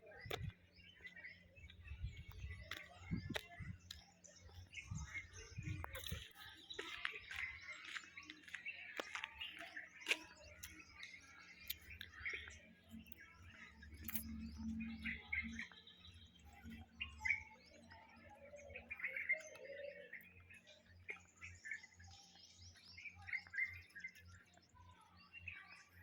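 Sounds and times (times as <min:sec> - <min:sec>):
faint bird chirping: 0:00.0 - 0:26.0.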